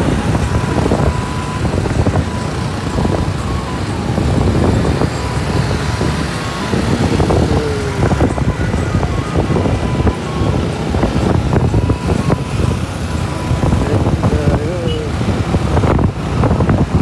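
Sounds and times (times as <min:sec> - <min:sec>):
motorcycle engine: 0:00.0 - 0:17.0
road noise: 0:00.0 - 0:17.0
scooters in traffic: 0:00.0 - 0:17.0.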